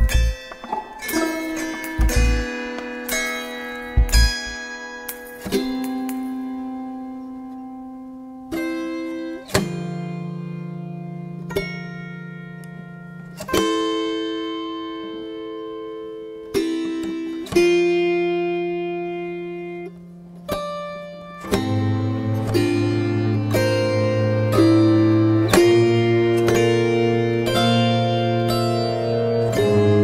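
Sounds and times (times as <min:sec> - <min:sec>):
plucked string chords: 0:00.0 - 0:30.0.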